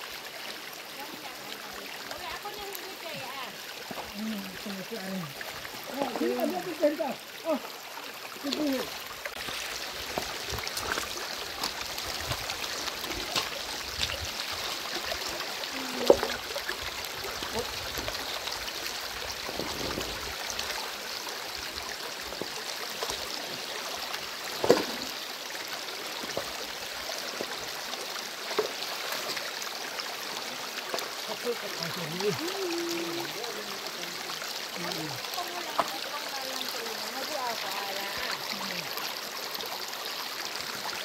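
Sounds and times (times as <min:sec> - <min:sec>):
stream running over stones: 0:00.0 - 0:41.0.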